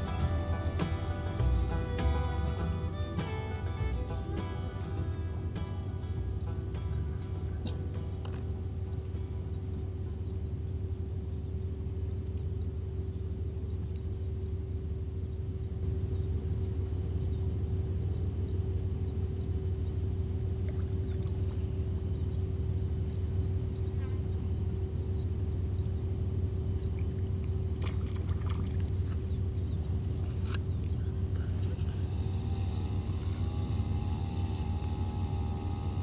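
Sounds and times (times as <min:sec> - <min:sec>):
low rumble with hum: 0:00.0 - 0:36.0
small birds chirping: 0:00.0 - 0:36.0.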